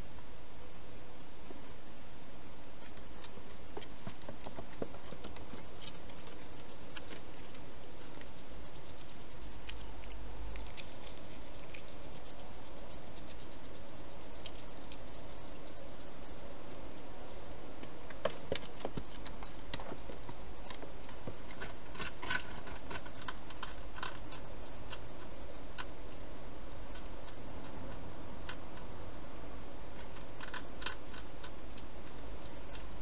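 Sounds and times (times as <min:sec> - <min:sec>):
steady hiss: 0:00.0 - 0:33.0
hedgehog crunching food: 0:02.8 - 0:33.0.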